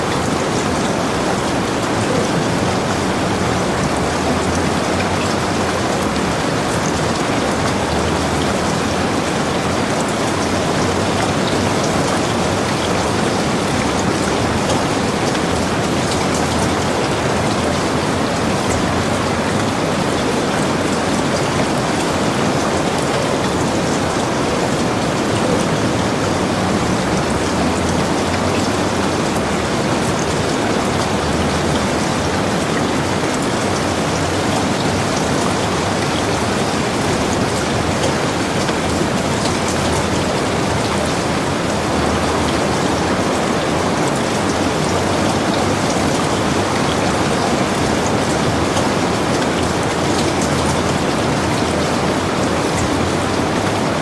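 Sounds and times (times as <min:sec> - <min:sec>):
heavy rain: 0:00.0 - 0:54.0
raindrops pattering on surfaces: 0:00.0 - 0:54.0.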